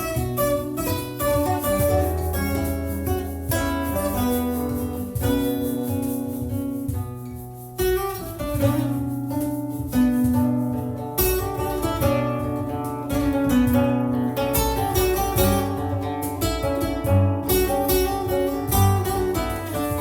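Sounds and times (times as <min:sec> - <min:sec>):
plucked and strummed strings: 0:00.0 - 0:20.0.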